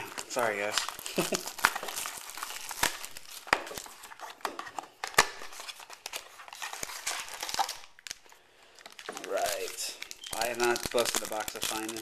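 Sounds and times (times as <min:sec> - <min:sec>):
foil wrapping crinkling and tearing: 0:00.0 - 0:12.0.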